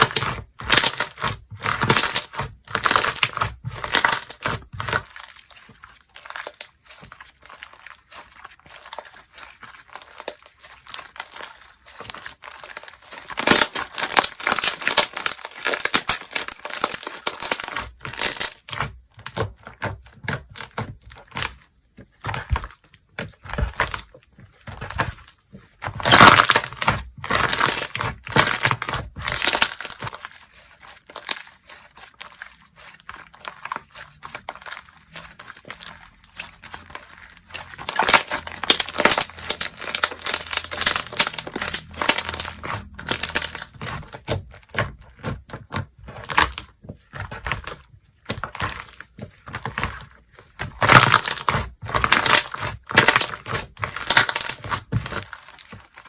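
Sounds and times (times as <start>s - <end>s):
slime squelching and popping: 0.0s - 56.0s.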